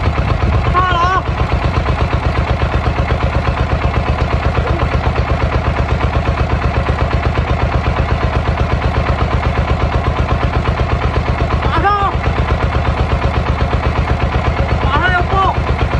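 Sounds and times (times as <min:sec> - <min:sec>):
tractor engine idling: 0:00.0 - 0:15.9.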